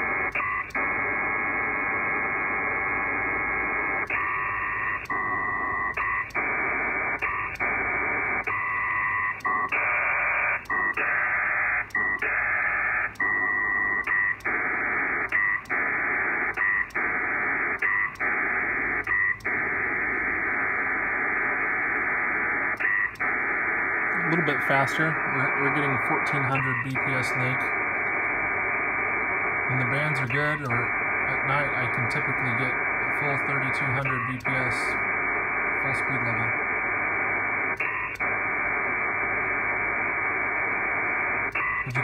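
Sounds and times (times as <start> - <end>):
hissy radio data tones: 0.0 - 42.0.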